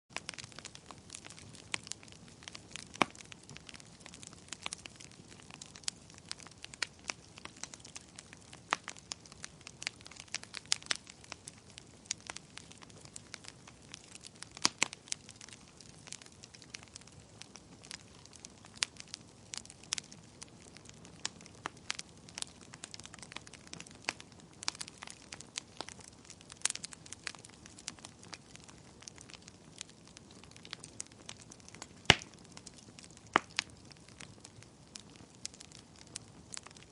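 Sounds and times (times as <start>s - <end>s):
fire crackling and popping: 0.1s - 36.9s.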